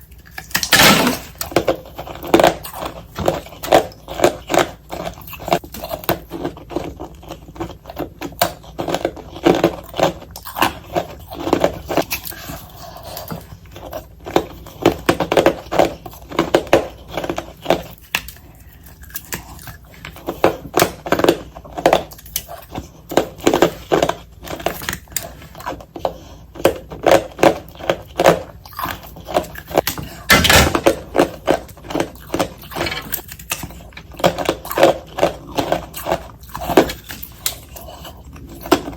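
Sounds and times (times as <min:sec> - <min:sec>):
ice crunching being chewed: 0:00.0 - 0:38.9.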